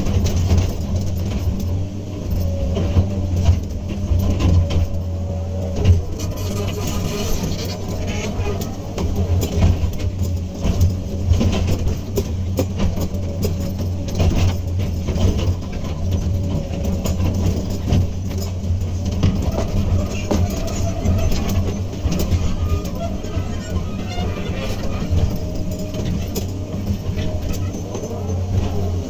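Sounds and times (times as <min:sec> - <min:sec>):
excavator diesel engine running: 0:00.0 - 0:29.0
knocks and clanks: 0:00.0 - 0:29.0.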